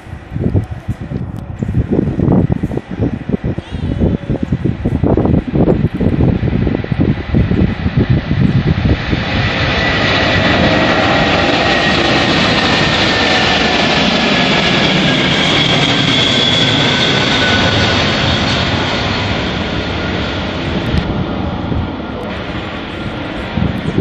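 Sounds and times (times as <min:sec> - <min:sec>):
jet aircraft roar: 0:00.0 - 0:24.0.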